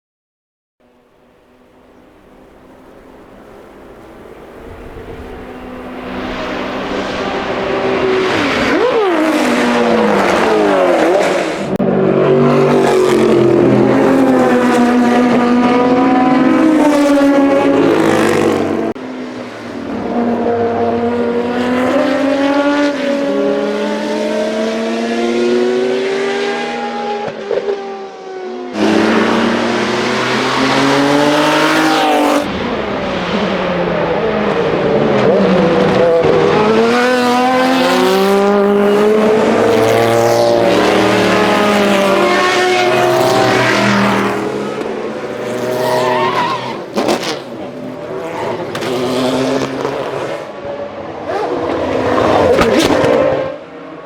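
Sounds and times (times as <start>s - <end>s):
racing car engines passing: 0.8s - 54.0s.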